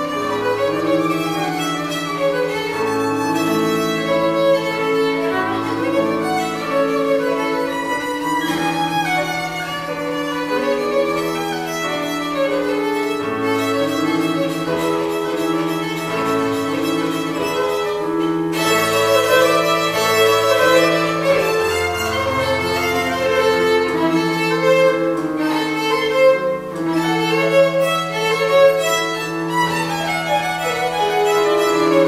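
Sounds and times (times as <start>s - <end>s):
violin slow melody: 0.0s - 32.0s.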